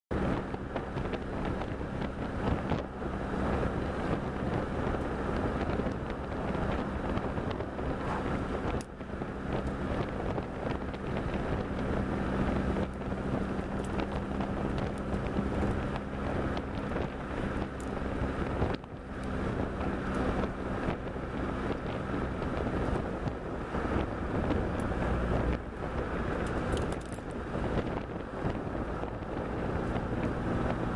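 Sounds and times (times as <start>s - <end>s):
car engine drone: 0.1s - 30.9s
road noise: 0.1s - 30.9s
wind buffeting microphone: 0.1s - 30.9s.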